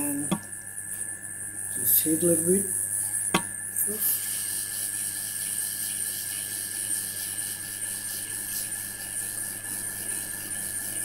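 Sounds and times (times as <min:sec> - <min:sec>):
hot-air station hissing: 0:00.0 - 0:11.0.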